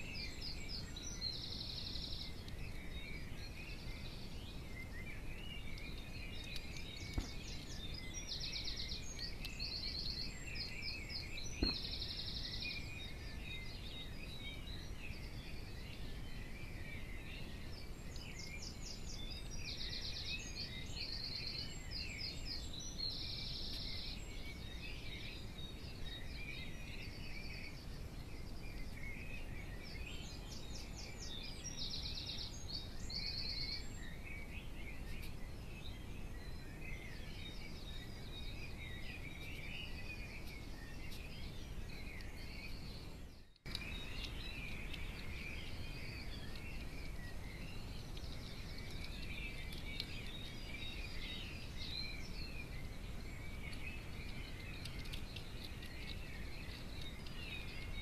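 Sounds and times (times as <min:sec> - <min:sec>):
bird chirps: 0:00.0 - 0:58.0.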